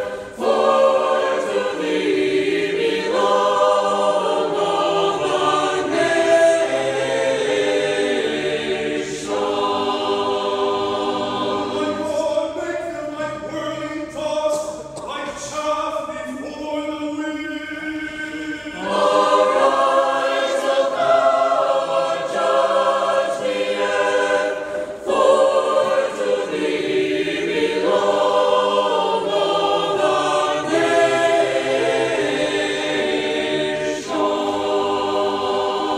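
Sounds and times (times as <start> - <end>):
choir chanting a cappella: 0.0 - 35.9.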